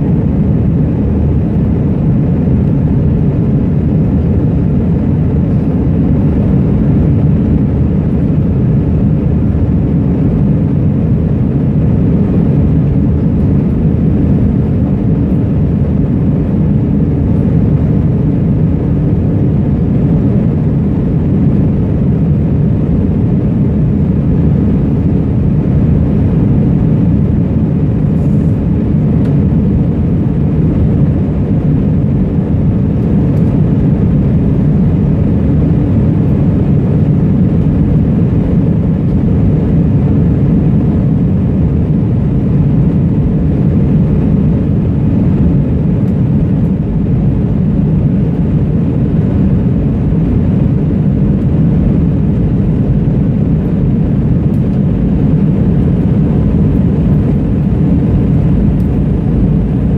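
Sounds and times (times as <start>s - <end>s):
jet airliner cabin drone: 0.0s - 59.9s.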